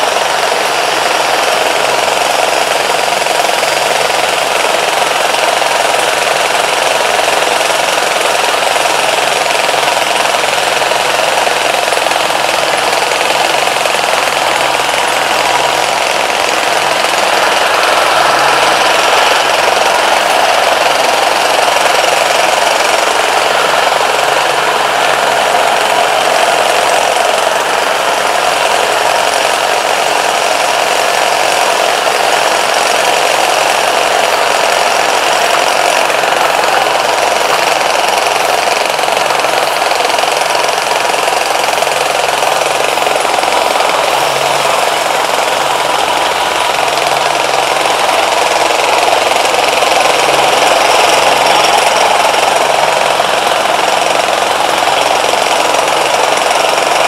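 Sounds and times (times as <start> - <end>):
rattly vehicle engine running: 0.0 - 57.0.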